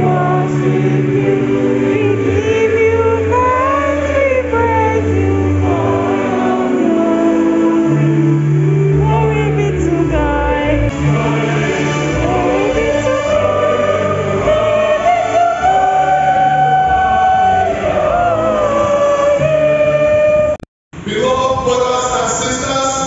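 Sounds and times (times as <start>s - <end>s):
congregation singing a hymn: 0.0s - 20.3s.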